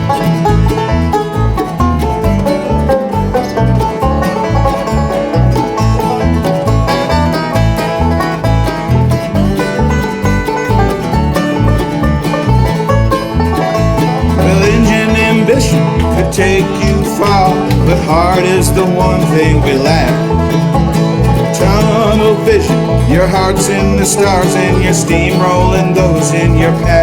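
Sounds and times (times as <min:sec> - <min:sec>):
banjo: 0:00.0 - 0:27.0
bluegrass band playing: 0:00.0 - 0:27.0.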